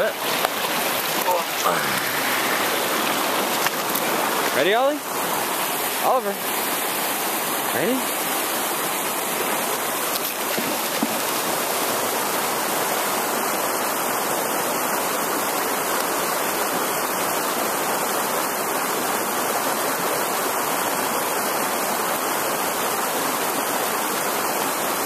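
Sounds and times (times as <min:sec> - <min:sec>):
creek water flowing: 0:00.0 - 0:25.0.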